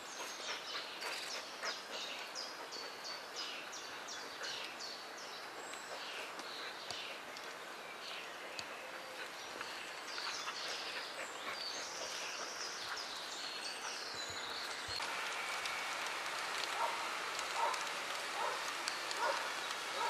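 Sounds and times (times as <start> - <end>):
background hiss: 0.0 - 20.0
birds chirping: 0.0 - 20.0.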